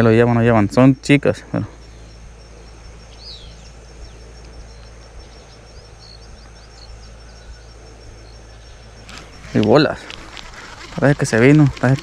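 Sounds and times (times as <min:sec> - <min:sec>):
high insect trill: 0:00.0 - 0:12.0
low background rumble: 0:00.0 - 0:12.0
small bird chirping: 0:00.0 - 0:12.0.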